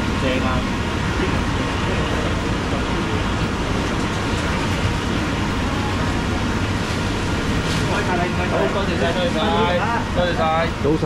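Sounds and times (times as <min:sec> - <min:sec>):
market background rumble: 0:00.0 - 0:11.0.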